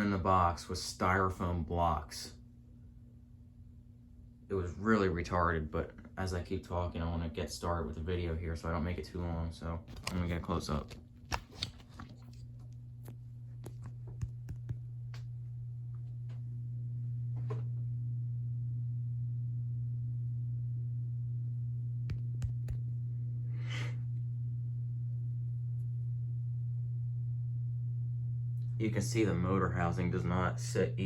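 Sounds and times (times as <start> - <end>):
ceiling fan motor humming: 0.0 - 31.0.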